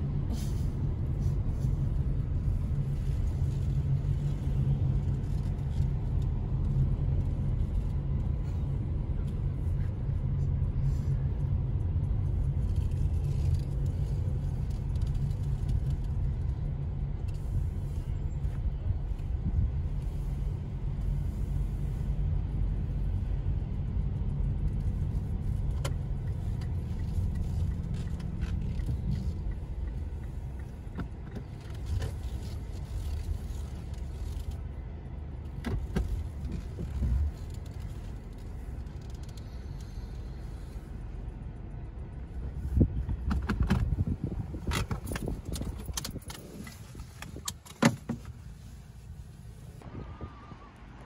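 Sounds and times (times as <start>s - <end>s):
car engine and tyre rumble: 0.0s - 51.0s.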